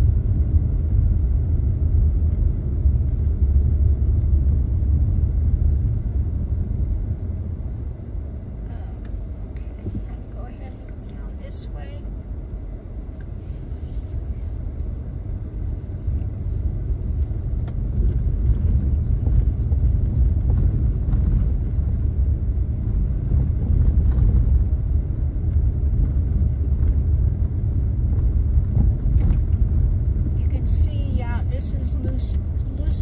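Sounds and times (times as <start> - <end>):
car on gravel road rumble: 0.0 - 33.0.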